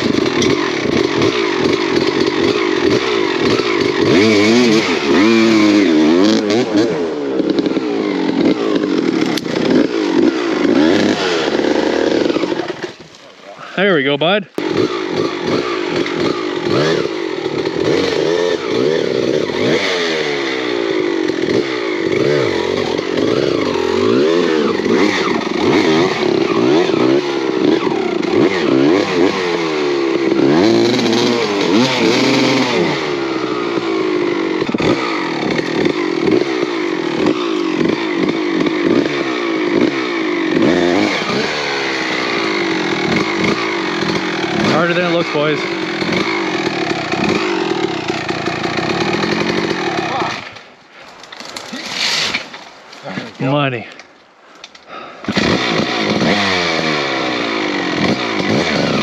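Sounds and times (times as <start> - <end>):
dirt bike engine revving: 0.0 - 50.6, 54.9 - 59.0.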